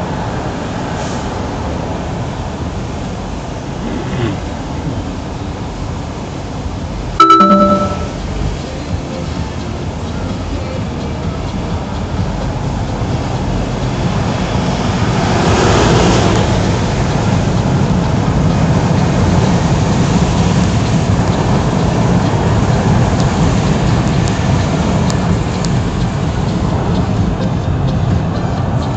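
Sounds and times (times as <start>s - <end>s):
low engine and road rumble: 0.0s - 7.2s, 8.1s - 28.9s
rain: 0.0s - 7.2s, 8.3s - 28.9s
tyres hissing on wet road: 0.0s - 7.2s, 8.3s - 28.9s.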